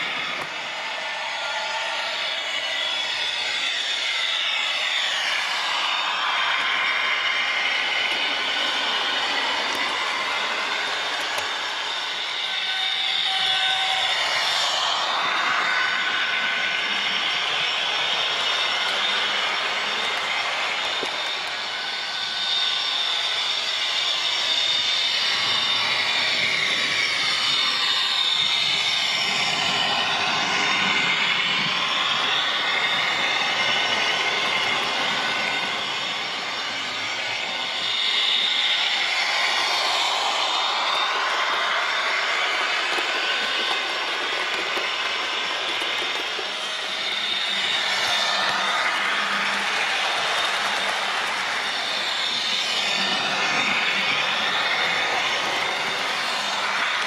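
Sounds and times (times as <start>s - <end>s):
model train motor whirring: 0.0s - 57.0s
thin high whine: 0.0s - 57.0s
wheels over rails: 7.6s - 57.0s.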